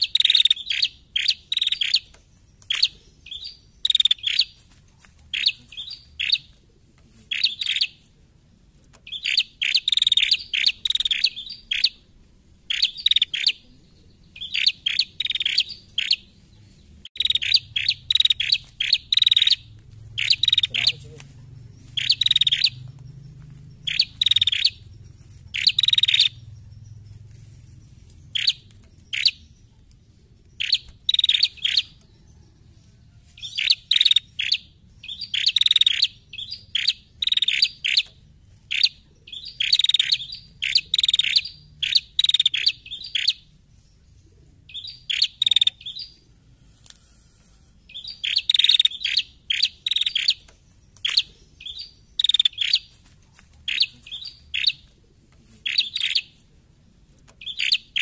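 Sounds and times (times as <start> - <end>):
bird chirping in rattling bursts: 0.0 - 4.6, 5.3 - 6.5, 7.3 - 8.0, 9.0 - 12.0, 12.7 - 13.6, 14.4 - 16.3, 17.0 - 32.1, 33.4 - 44.0, 44.6 - 46.2, 47.8 - 52.9, 53.7 - 54.8, 55.6 - 56.4, 57.4 - 58.0.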